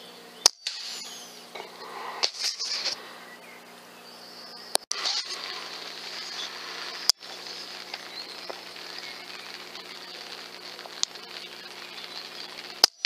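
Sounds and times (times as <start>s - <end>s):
distant birds singing: 0.0s - 13.0s
sharp clicks: 0.4s - 2.9s, 4.7s - 13.0s.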